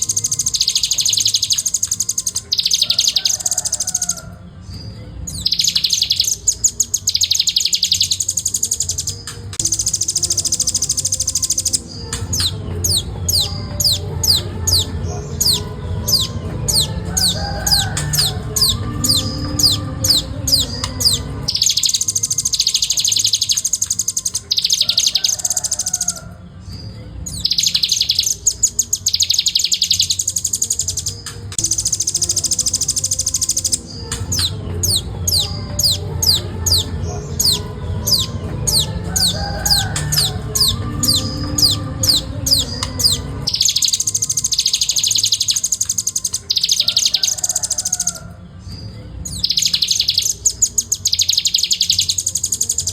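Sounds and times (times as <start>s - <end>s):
bird singing fast trills: 0.0s - 52.9s.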